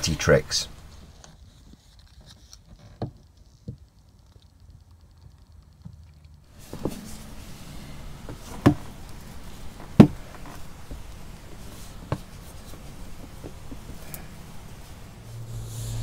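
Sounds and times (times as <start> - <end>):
soft rubbing and handling: 0.7 - 5.4, 6.5 - 16.0.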